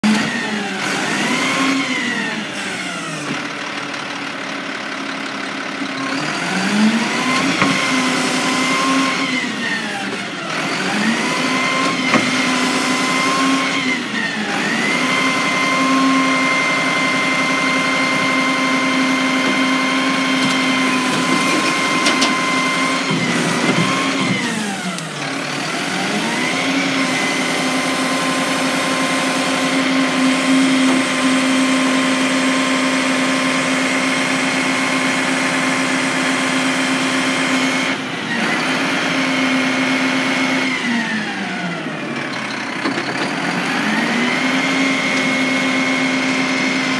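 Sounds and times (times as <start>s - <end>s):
truck engine revving: 0.0s - 3.5s, 5.8s - 46.9s.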